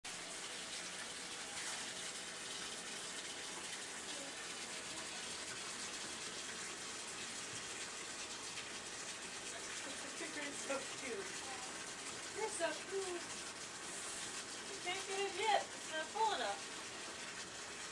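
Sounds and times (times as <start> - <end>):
water running from bathtub tap: 0.1 - 17.9.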